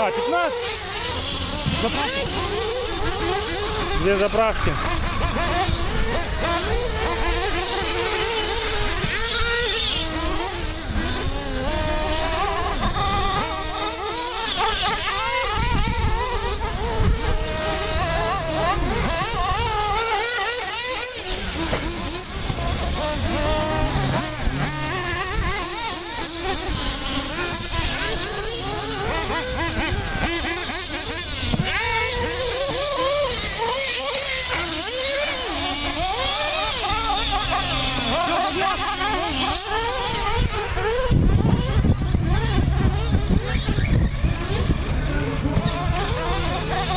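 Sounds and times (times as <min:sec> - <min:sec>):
rc car engines buzzing: 0:00.0 - 0:46.9.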